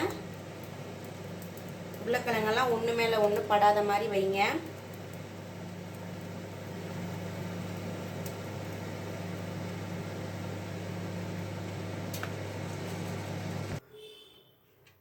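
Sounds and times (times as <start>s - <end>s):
microwave oven humming: 0.0s - 13.8s.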